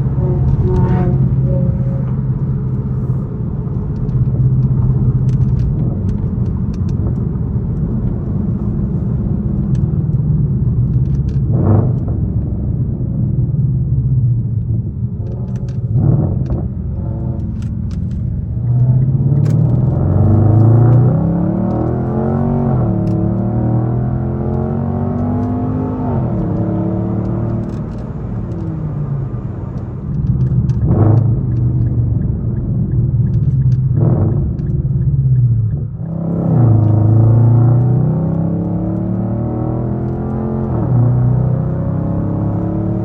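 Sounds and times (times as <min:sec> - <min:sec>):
car exhaust rumbling: 0:00.0 - 0:43.0.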